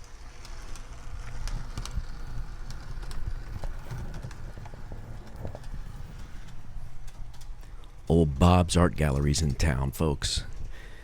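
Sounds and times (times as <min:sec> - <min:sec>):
wheels clicking over rail joints: 0:00.0 - 0:09.8.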